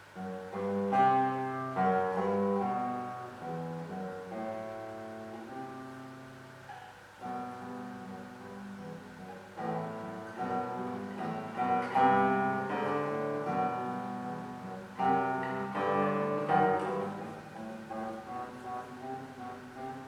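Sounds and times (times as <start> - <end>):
classical guitar: 0.0 - 20.0.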